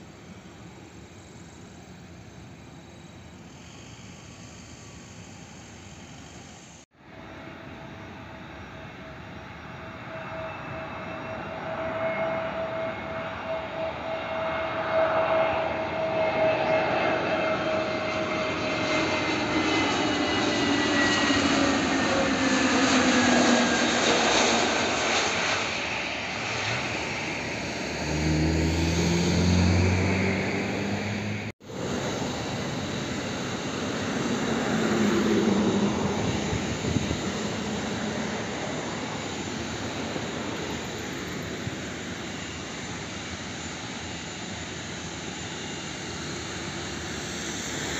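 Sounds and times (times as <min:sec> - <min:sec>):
jet engines running steadily: 0:00.0 - 0:47.9
jet engines whining: 0:00.0 - 0:47.9.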